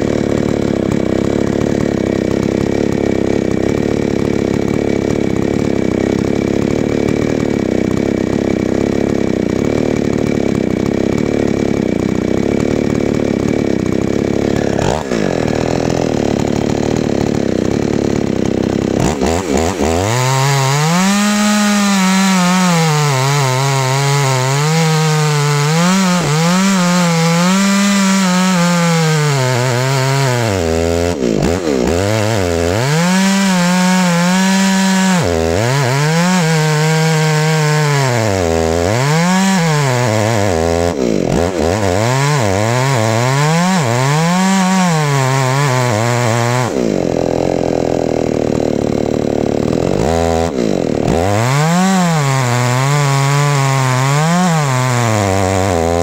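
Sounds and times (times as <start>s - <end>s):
small engine sawing wood: 0.0s - 56.0s.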